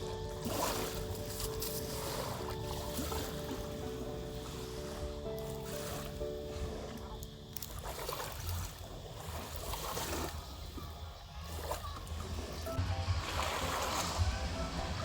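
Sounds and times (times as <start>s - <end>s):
background music with held notes: 0.0s - 15.0s
small sea waves washing on shore: 0.0s - 15.0s.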